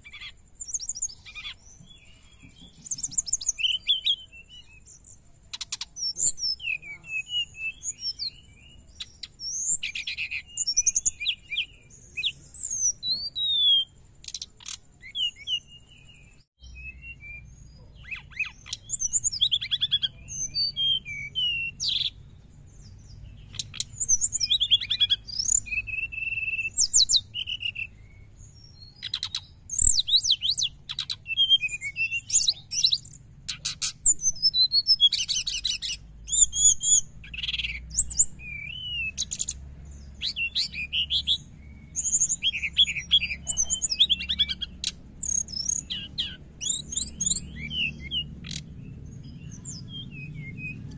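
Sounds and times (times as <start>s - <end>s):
bird twittering song: 0.0s - 50.9s.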